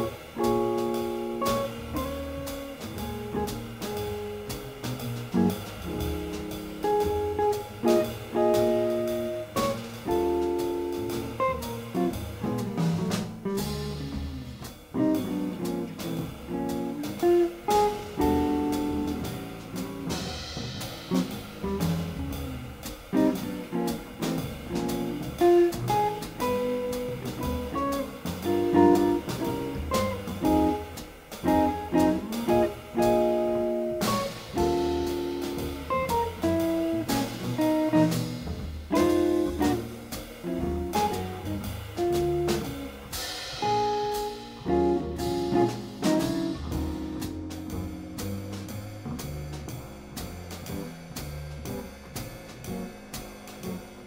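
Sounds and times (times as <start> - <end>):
double bass: 0.0 - 54.0
drum kit with cymbals: 0.0 - 54.0.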